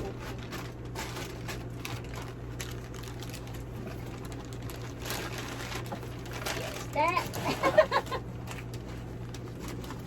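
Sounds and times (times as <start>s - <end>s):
packaging rustling and crinkling: 0.0s - 10.0s
steady low hum: 0.0s - 10.0s.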